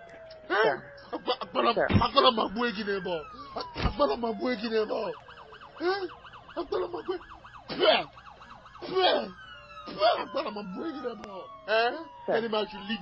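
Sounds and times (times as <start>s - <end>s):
police siren yelping: 0.0s - 13.0s.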